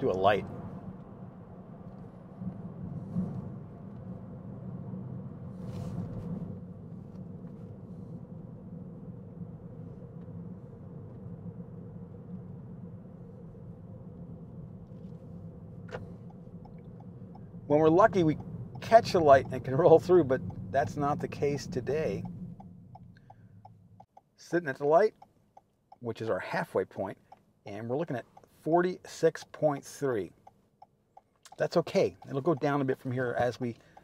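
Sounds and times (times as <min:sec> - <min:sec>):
road and tyre noise in car: 0:00.0 - 0:34.0.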